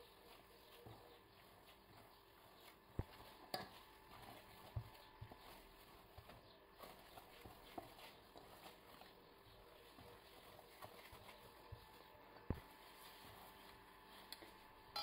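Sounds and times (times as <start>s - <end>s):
dough slapping in a bowl: 0.0s - 15.0s
dough squelching: 0.0s - 15.0s.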